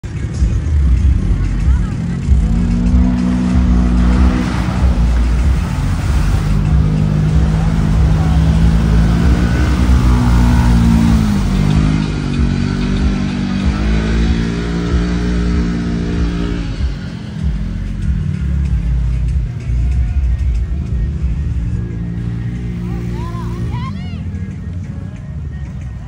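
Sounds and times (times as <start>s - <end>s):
engine revving high through mud: 0.0s - 24.6s.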